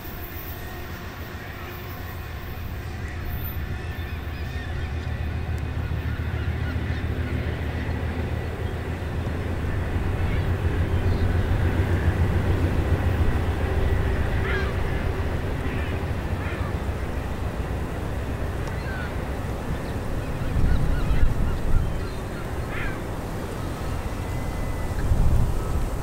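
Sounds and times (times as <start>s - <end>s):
train cars rumbling on tracks: 0.0s - 26.0s
bird calls: 1.4s - 26.0s.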